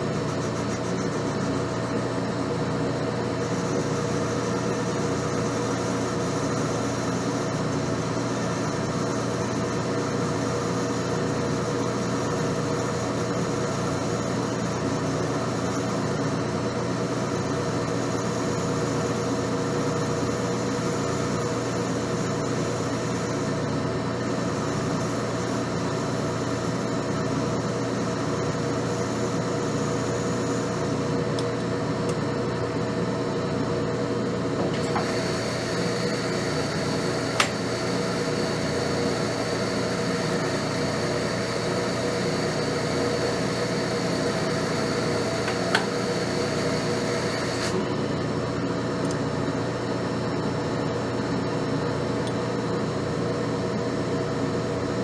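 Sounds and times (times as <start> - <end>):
high steady whine: 0.0 - 55.0
metal lathe humming: 0.0 - 55.0.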